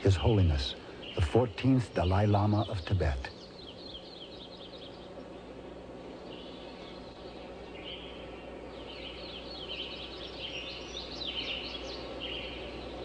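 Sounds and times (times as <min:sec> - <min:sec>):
background hiss: 0:00.0 - 0:13.0
birds chirping: 0:00.0 - 0:13.0
low hum: 0:00.0 - 0:13.0.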